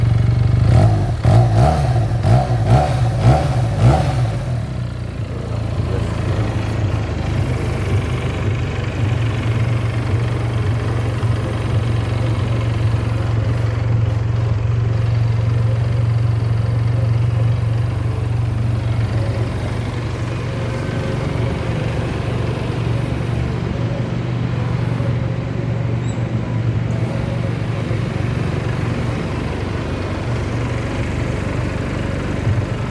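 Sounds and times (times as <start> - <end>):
motorcycle engine revving and idling: 0.0 - 32.9.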